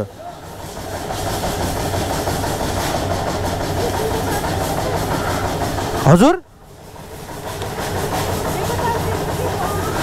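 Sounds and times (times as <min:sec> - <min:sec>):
machine humming and hissing: 0:00.0 - 0:10.0.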